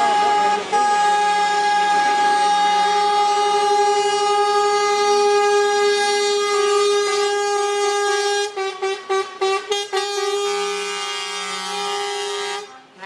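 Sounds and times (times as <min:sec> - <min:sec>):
fainter lower horn: 0:00.0 - 0:12.8
lorry air horn blast: 0:00.0 - 0:12.8.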